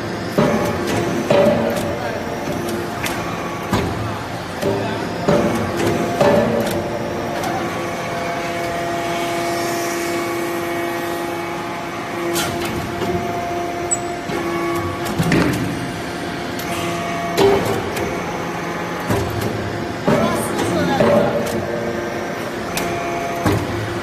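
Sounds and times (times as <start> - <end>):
hydraulic unit hum: 0.0 - 24.0.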